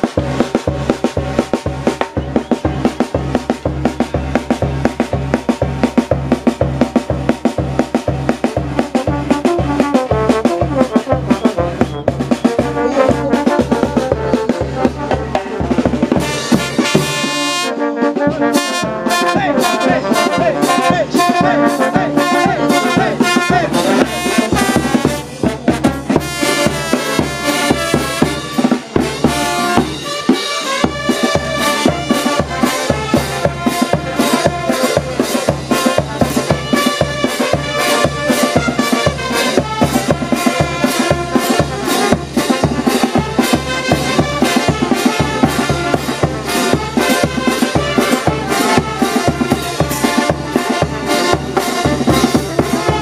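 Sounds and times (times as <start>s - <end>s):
bass and snare drums: 0.0s - 53.0s
brass band playing: 0.0s - 53.0s.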